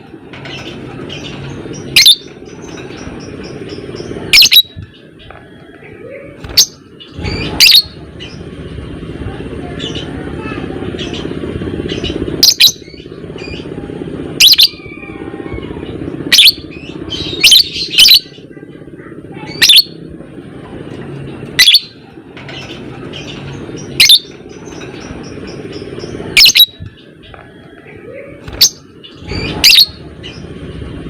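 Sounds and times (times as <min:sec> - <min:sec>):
low rattling drone: 0:00.0 - 0:31.0.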